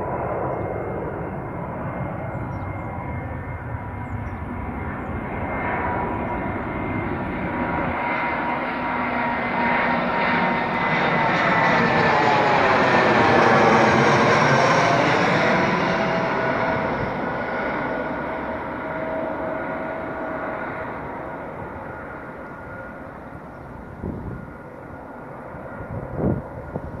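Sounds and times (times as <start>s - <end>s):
jet engines passing overhead: 0.0s - 27.0s.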